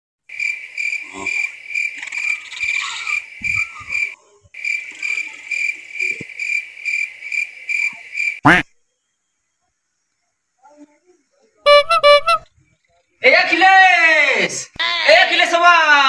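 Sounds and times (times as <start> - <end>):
cricket chirping: 0.3 - 13.2.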